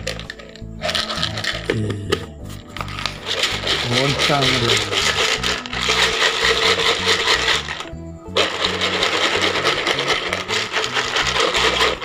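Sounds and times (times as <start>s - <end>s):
pellets rattling in plastic jar: 0.0s - 1.9s, 2.8s - 12.0s
background music: 0.0s - 12.0s.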